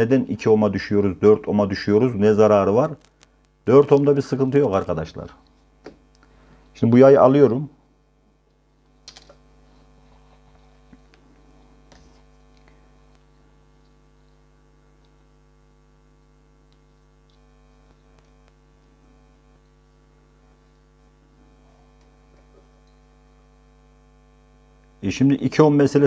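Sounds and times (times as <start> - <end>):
faint electrical mains hum: 0.0 - 26.0.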